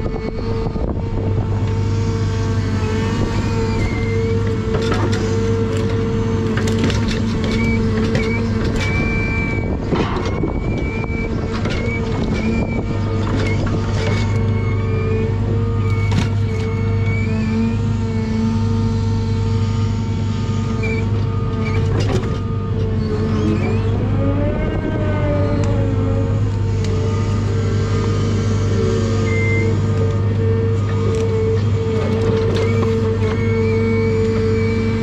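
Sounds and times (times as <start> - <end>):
diesel engine running: 0.0 - 35.0
hydraulic whine: 0.0 - 35.0.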